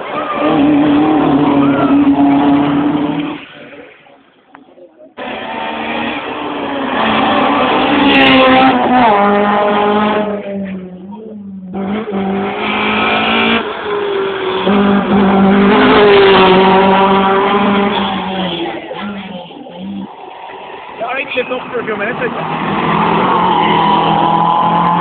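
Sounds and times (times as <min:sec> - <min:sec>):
rally car engines revving: 0:00.0 - 0:25.0.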